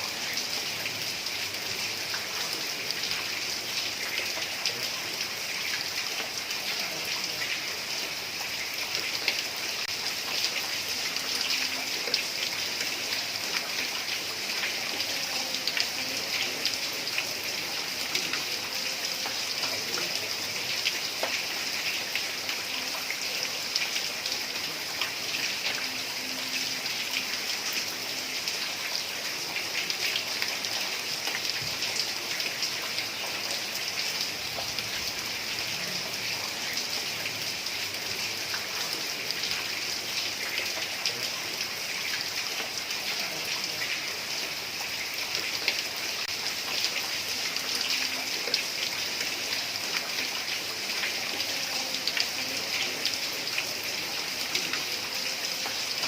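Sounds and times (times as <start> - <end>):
heavy rain on roof tiles: 0.0 - 56.0.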